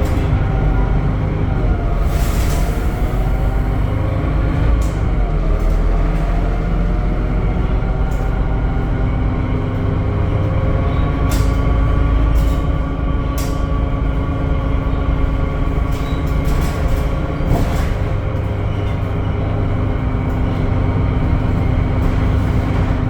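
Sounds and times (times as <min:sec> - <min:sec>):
bus engine rumble and whine: 0:00.0 - 0:23.0.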